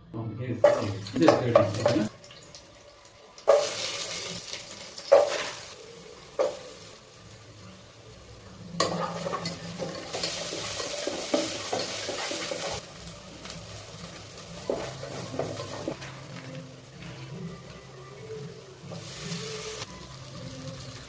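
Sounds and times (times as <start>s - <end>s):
noodles sizzling: 0.4s - 21.0s.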